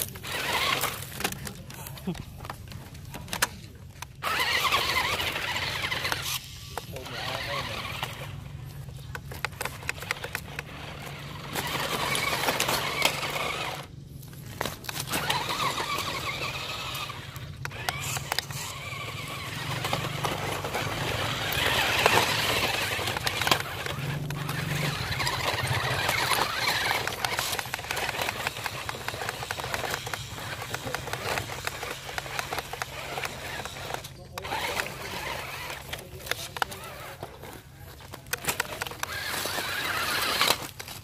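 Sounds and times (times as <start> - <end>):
toy car electric motors whining: 0.0 - 41.0
wheels clattering on concrete: 0.0 - 41.0.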